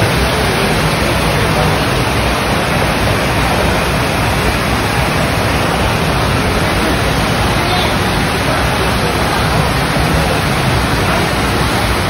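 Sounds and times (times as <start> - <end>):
pumped water rushing: 0.0 - 12.0.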